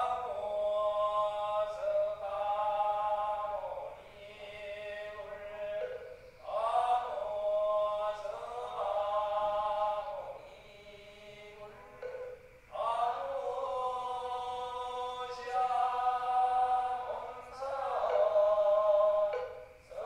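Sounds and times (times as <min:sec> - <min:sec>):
chanting in long held notes: 0:00.0 - 0:20.0.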